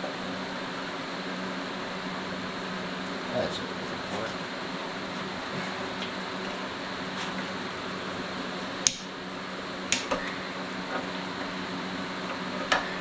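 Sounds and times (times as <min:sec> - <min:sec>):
workshop fan humming: 0:00.0 - 0:13.0.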